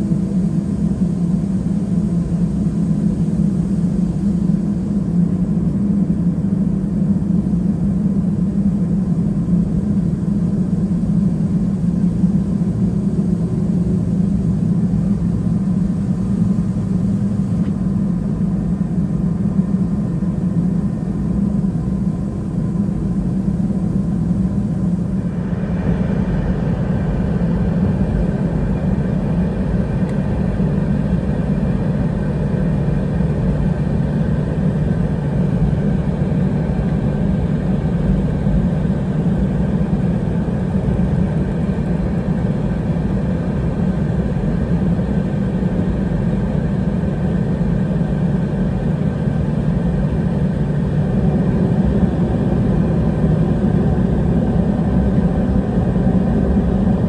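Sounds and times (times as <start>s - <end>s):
jet engine cabin rumble: 0.0s - 57.0s.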